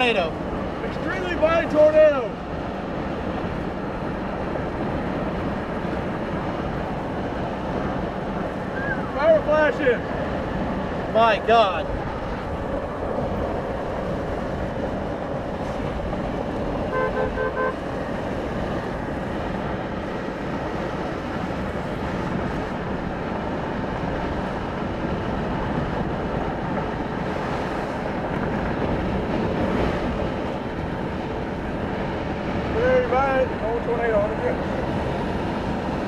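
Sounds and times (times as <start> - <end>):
road and wind noise in vehicle: 0.0 - 36.0.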